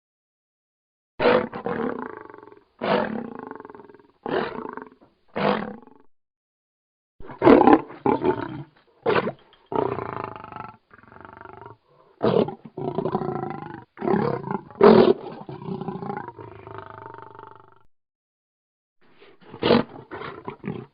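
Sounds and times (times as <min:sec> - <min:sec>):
lion roaring: 0:01.2 - 0:06.1, 0:07.2 - 0:17.9, 0:19.4 - 0:20.9.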